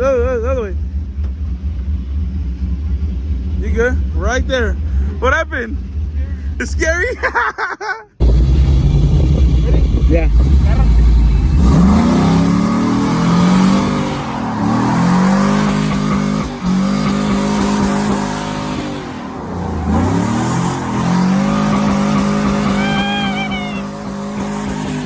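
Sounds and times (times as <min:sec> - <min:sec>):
vehicle engine revving: 0:00.0 - 0:07.1, 0:08.2 - 0:25.0.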